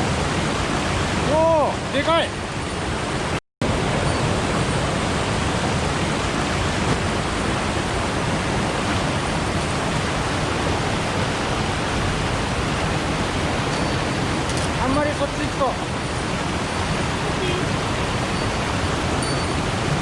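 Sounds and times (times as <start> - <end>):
mountain stream water rushing: 0.0 - 20.0.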